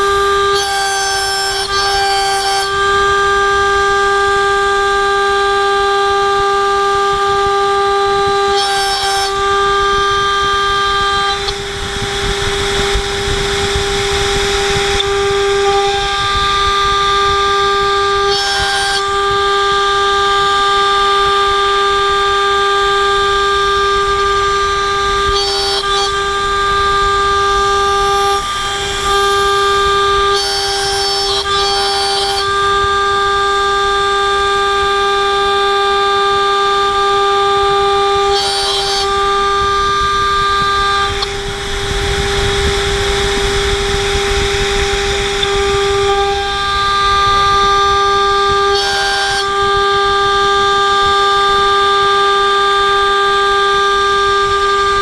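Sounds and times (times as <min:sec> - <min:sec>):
cnc spindle high whine: 0:00.0 - 0:55.0
harsh rasping milling bursts: 0:00.0 - 0:55.0.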